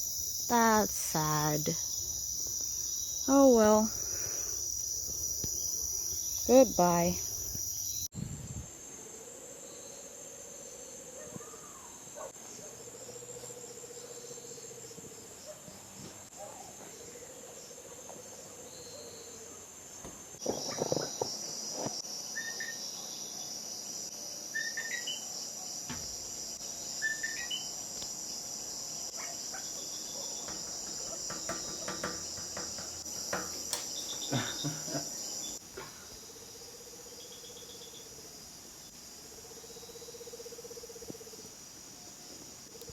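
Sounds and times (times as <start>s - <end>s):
crickets and insects trilling: 0.0s - 42.9s.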